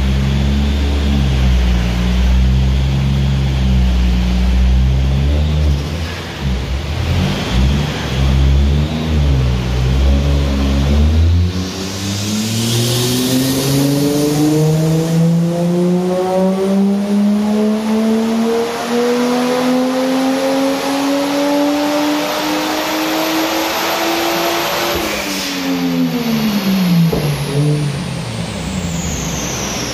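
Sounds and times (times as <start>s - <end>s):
car engine revving on dyno: 0.0s - 29.9s.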